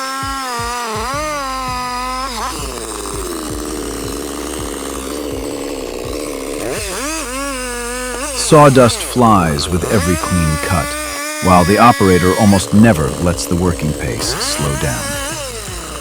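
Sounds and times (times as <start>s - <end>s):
chainsaw cutting log: 0.0s - 16.0s.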